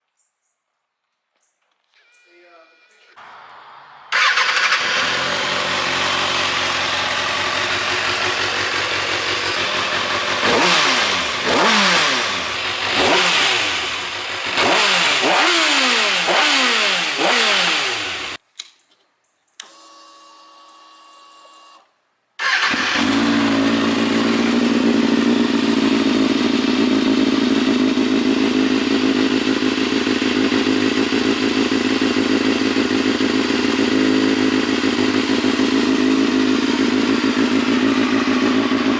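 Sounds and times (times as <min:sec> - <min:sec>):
motorcycle engine idling and revving: 0:03.2 - 0:18.4, 0:22.4 - 0:38.9.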